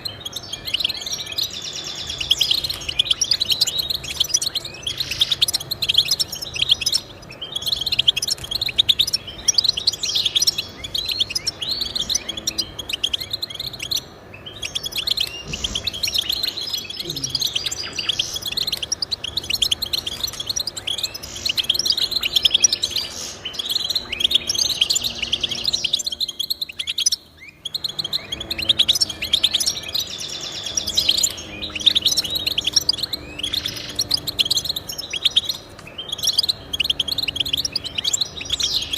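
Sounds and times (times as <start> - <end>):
finch singing chirps and trills: 0.0 - 38.9.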